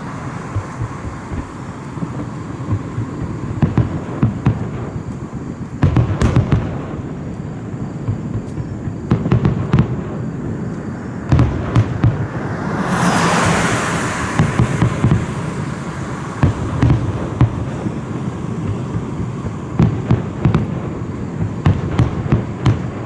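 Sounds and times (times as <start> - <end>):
fireworks booms and pops: 0.0 - 23.0
fireworks crackling hiss: 0.0 - 23.0.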